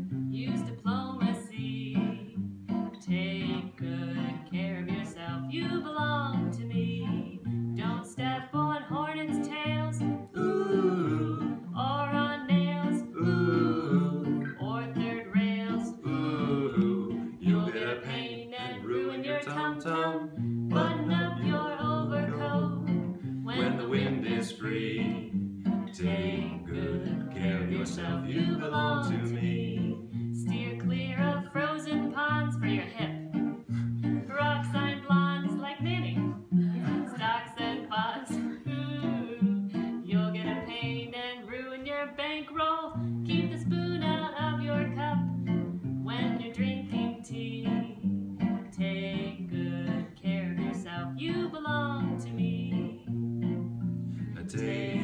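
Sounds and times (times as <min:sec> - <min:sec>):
acoustic guitar strumming: 0:00.0 - 0:55.0
man and woman singing: 0:00.4 - 0:02.4, 0:03.1 - 0:45.2, 0:46.1 - 0:48.1, 0:48.7 - 0:53.1, 0:54.3 - 0:55.0.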